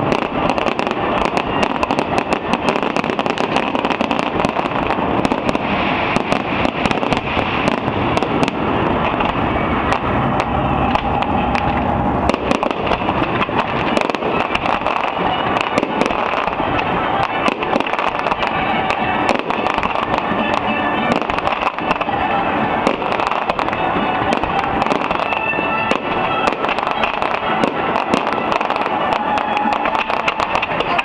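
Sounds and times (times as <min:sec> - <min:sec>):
fireworks bangs and crackles: 0:00.0 - 0:31.0
rumbling noise: 0:00.0 - 0:31.0.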